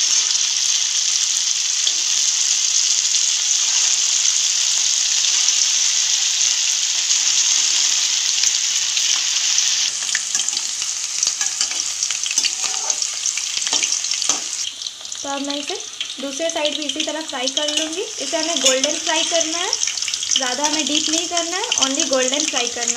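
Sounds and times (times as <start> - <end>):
meat sizzling in hot oil: 0.0 - 22.9.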